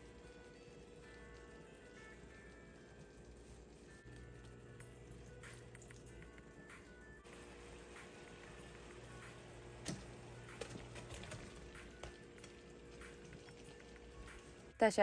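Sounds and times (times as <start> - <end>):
sauce simmering in a pan: 0.0 - 10.4, 11.8 - 14.8.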